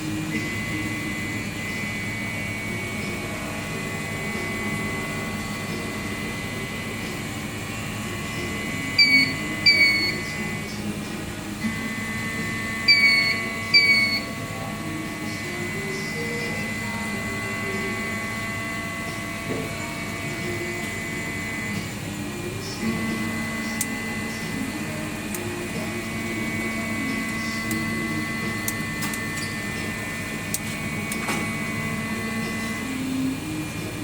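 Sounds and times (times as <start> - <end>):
electronic hum with high whine: 0.0 - 34.0.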